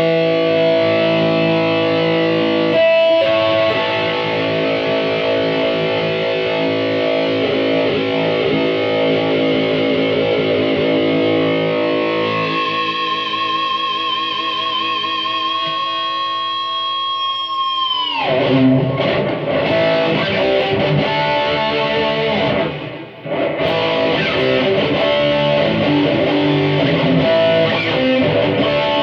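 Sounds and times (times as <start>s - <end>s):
distorted electric guitar: 0.0s - 29.0s.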